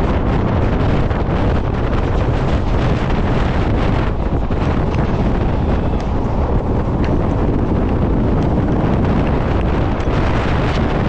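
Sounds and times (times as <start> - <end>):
train rumbling on track: 0.0 - 11.0
wind buffeting microphone: 0.0 - 11.0.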